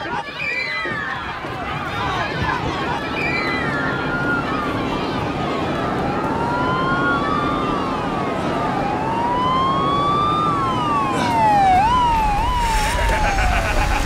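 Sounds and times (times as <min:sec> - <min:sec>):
police sirens wailing: 0:00.0 - 0:14.0.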